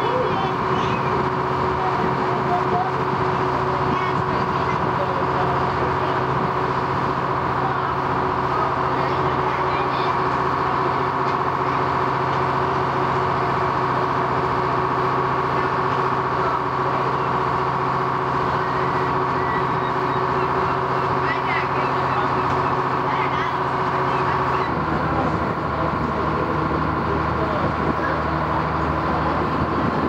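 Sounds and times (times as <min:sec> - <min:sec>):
ferry engine droning: 0:00.0 - 0:30.0.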